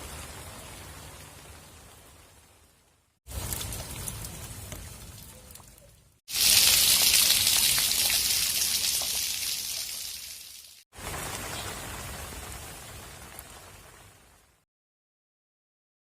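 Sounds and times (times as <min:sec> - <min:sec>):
rain falling: 0:00.0 - 0:14.6
raindrops hitting: 0:00.0 - 0:14.6.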